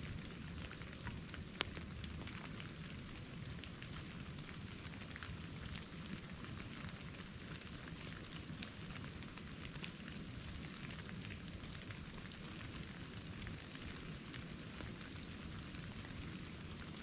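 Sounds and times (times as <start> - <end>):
light precipitation hissing: 0.0 - 17.0.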